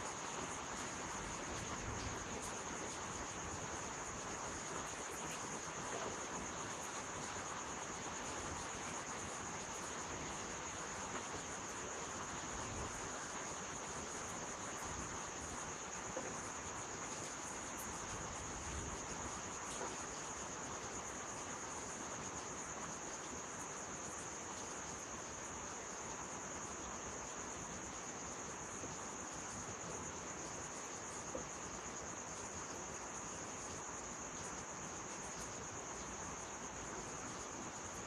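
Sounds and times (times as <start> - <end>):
constant hiss: 0.0 - 38.0
insects droning: 0.0 - 38.0.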